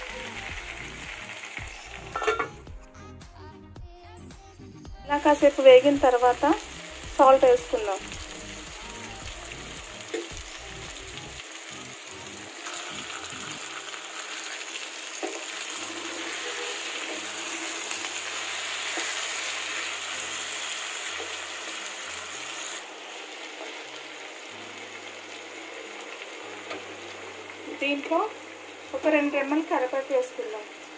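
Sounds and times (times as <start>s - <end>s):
vegetables sizzling in oil: 0.0s - 2.7s, 5.1s - 30.9s.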